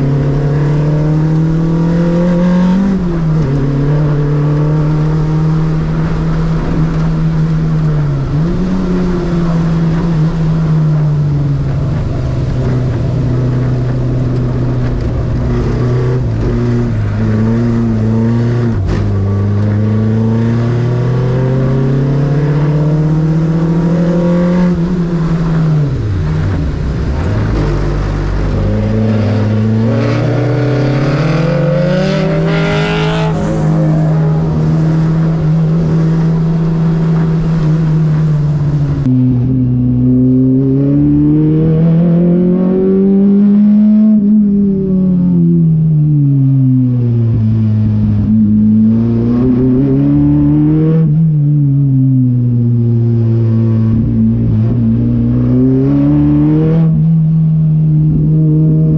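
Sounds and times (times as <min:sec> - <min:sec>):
race car engine from cabin: 0:00.0 - 0:58.9.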